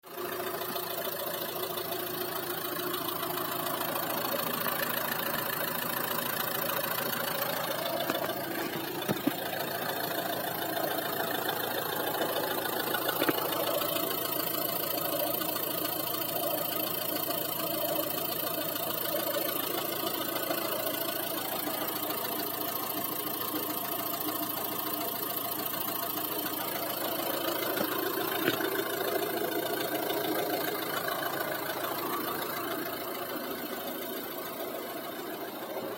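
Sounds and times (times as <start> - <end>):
diesel engine idling with knock: 0.1 - 35.9.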